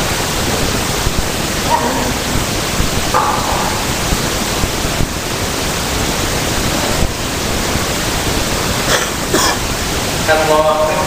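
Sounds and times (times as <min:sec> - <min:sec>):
steady loud hiss: 0:00.0 - 0:11.0.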